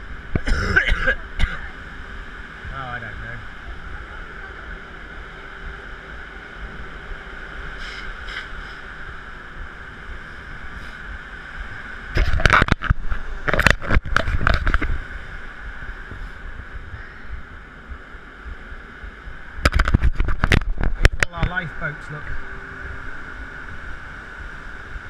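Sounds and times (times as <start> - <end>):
faint steady hum: 0.0 - 25.0
wind: 0.0 - 25.0
crackly rumbling on microphone: 2.6 - 25.0.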